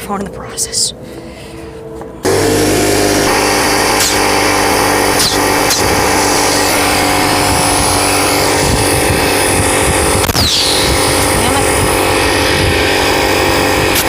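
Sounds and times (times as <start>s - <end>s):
portable air compressor running: 2.2s - 14.0s.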